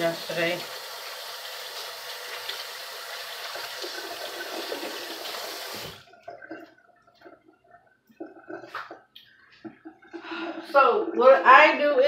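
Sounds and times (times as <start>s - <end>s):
kitchen tap running: 0.0s - 10.1s.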